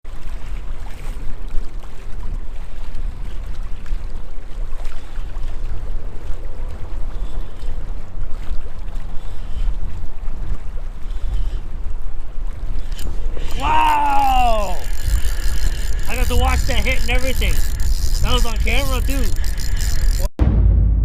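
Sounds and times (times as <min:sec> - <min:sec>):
wind buffeting microphone: 0:00.1 - 0:20.3.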